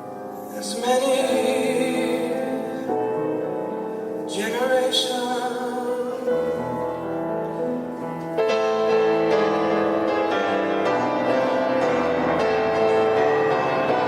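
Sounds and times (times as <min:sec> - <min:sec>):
piano music with chords: 0:00.0 - 0:14.0.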